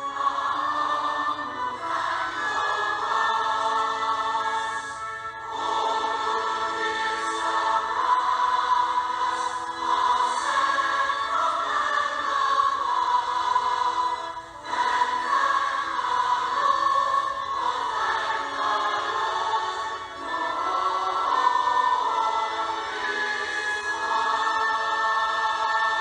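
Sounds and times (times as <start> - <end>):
choir singing a hymn: 0.0 - 26.0.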